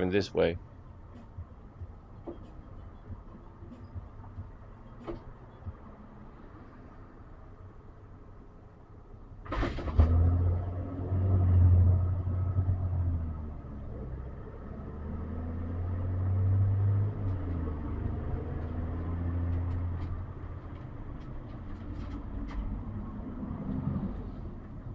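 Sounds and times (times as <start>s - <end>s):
car engine and road noise: 0.0s - 24.9s.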